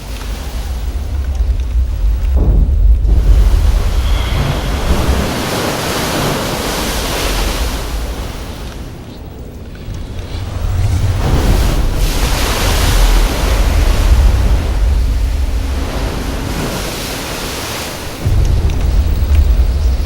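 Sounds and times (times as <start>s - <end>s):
loud rushing noise: 0.0s - 8.6s, 9.8s - 20.0s
deep rumble: 0.0s - 17.0s, 18.2s - 20.0s.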